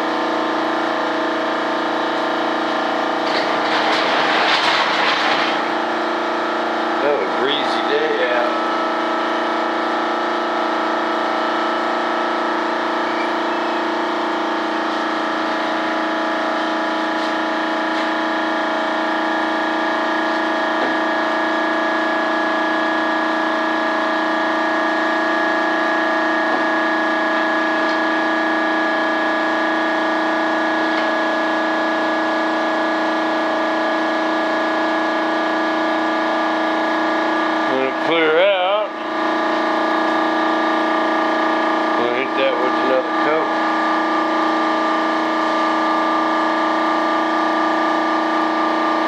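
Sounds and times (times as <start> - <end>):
machine humming: 0.0 - 49.0.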